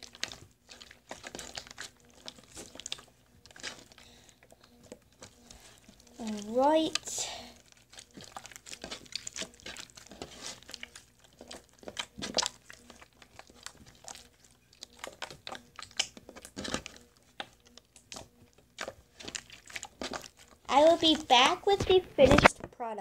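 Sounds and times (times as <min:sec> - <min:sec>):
slime squished by hand: 0:00.0 - 0:22.5.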